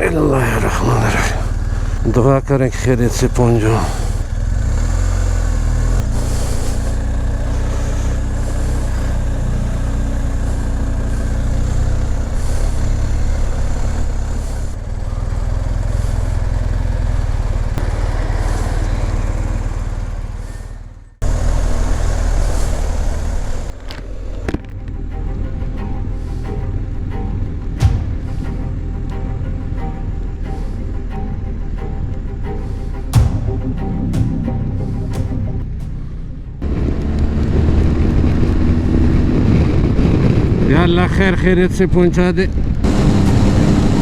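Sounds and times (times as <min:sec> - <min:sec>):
motorcycle engine running: 0:00.0 - 0:41.7, 0:42.5 - 0:44.0
wind and road noise: 0:00.0 - 0:44.0.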